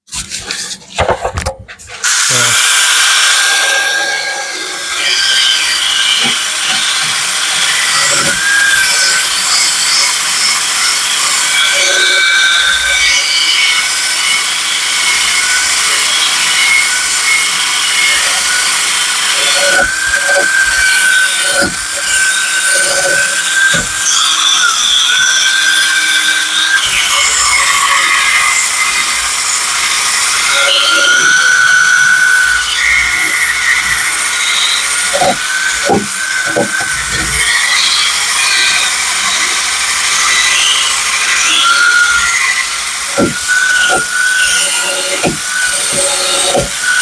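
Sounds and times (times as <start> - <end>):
power tool scraping steel blade: 0.1 - 47.0.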